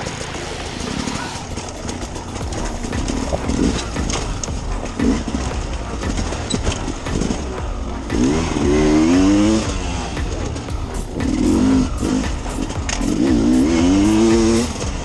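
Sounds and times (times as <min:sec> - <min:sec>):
motorcycle engine revving: 0:00.0 - 0:15.0
low rumble with knocks: 0:01.6 - 0:15.0.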